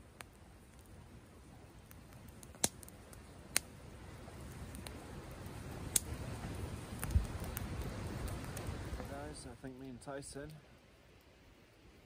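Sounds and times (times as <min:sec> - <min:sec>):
sharp fire pops: 0:00.0 - 0:10.6
campfire crackling: 0:00.0 - 0:12.0.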